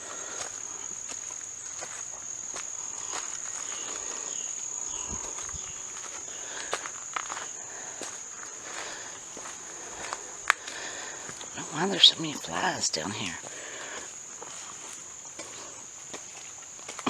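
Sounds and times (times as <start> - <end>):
footsteps on a trail: 0.0 - 17.0
insects trilling: 0.0 - 17.0.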